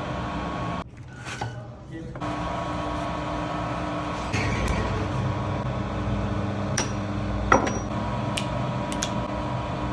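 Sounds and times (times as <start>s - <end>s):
steady mechanical hum: 0.0s - 9.9s.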